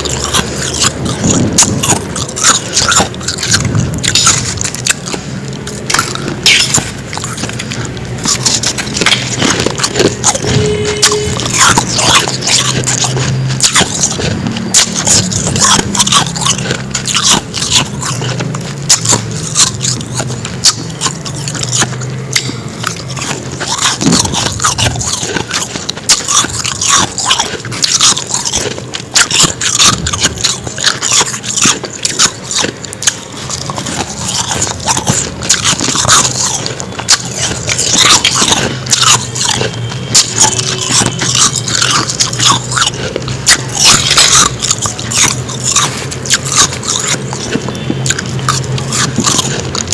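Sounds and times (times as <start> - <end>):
ice crunching being chewed: 0.0 - 49.9.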